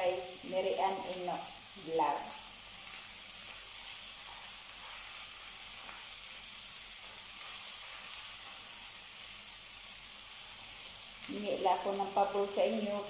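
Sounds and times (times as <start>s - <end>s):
food sizzling in hot oil: 0.0s - 13.0s
wooden spatula stirring in pan: 2.4s - 13.0s.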